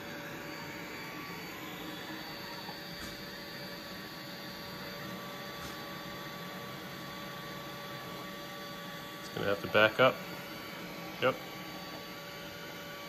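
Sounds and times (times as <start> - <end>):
robot vacuum whirring: 0.0 - 13.0.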